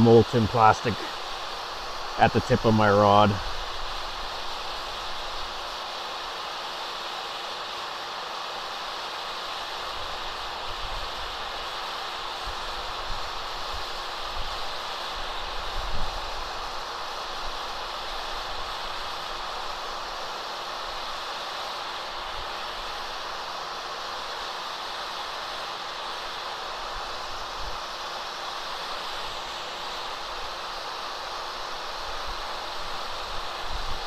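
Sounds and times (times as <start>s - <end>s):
faint steady hum: 0.0s - 34.0s
heat gun fan hiss: 0.0s - 34.0s.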